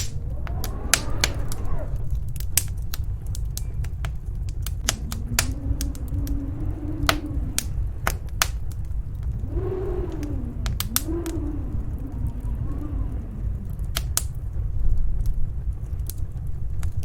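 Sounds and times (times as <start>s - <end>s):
storm wind rumbling and howling: 0.0s - 17.0s
wood fire crackling and popping: 0.0s - 17.0s.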